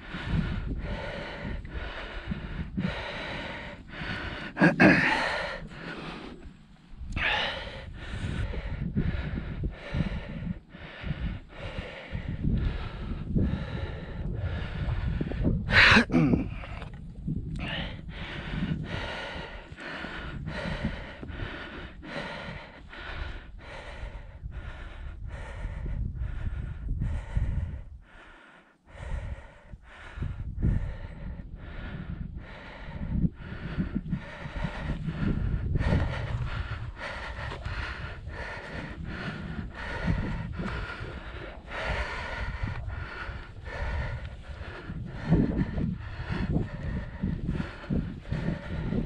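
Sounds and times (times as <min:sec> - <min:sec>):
person breathing hard: 0:00.0 - 0:49.0.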